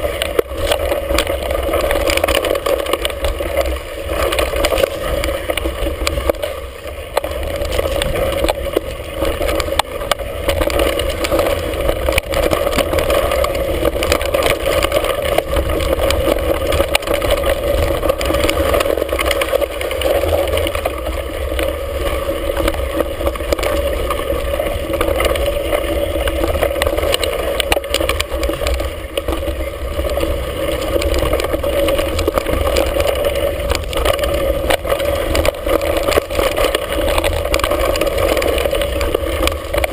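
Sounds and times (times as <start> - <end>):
bike knocking and rattling: 0.0 - 39.9.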